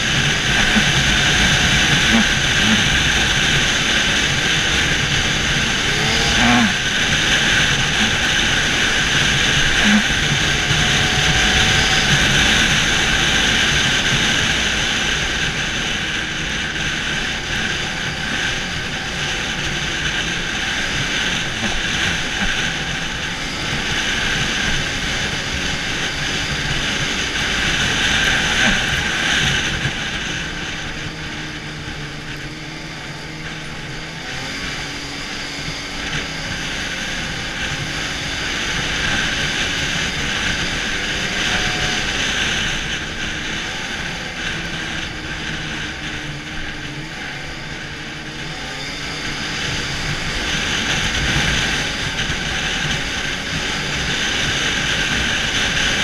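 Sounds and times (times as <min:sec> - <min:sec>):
snowmobile engine and track running: 0:00.0 - 0:56.0.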